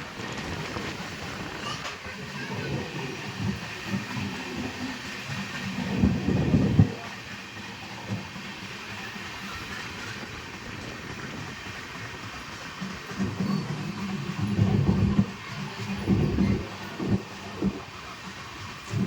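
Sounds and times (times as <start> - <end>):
train running on track: 0.0 - 19.0.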